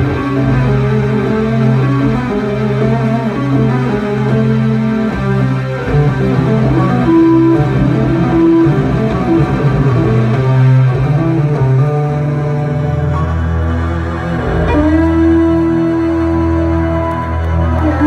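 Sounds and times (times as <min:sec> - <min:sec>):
electric bass playing: 0:00.0 - 0:18.0.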